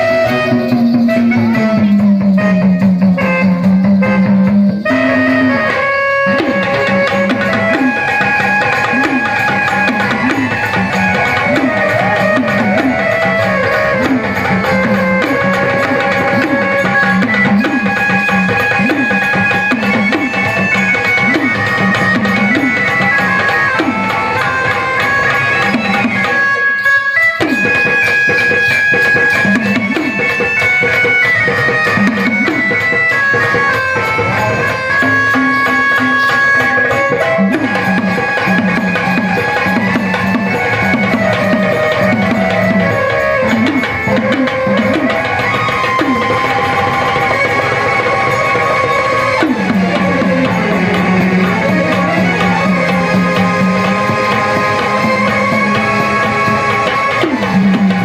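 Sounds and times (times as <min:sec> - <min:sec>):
drums with pitch bends: 0:00.0 - 0:26.8, 0:27.4 - 0:58.0.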